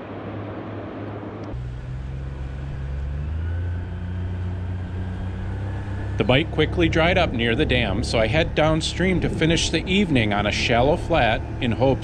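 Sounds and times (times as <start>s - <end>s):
wind: 0.0s - 12.0s
outboard motor running: 1.6s - 12.0s.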